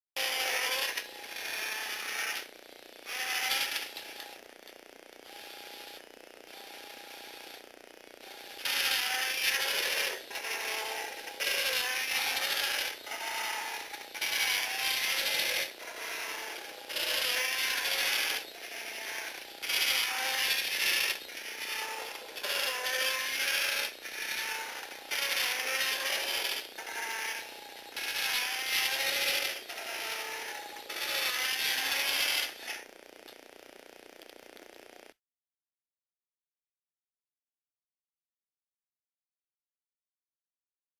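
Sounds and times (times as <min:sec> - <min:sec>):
plastic gears grinding: 0:00.2 - 0:33.3
small electric motors whirring: 0:00.2 - 0:35.2.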